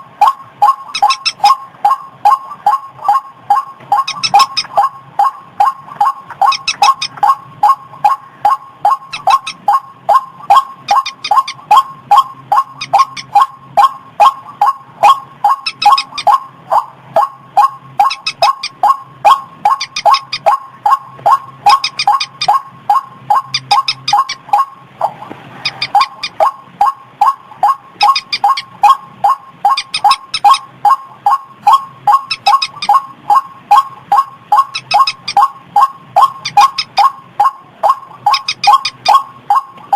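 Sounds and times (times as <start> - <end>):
waterhen calls: 0.2 - 39.9.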